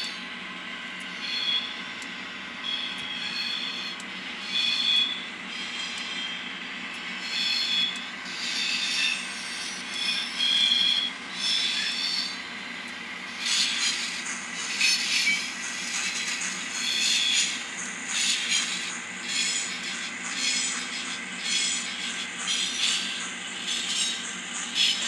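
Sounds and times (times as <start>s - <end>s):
model locomotive engine hum: 0.0s - 25.0s.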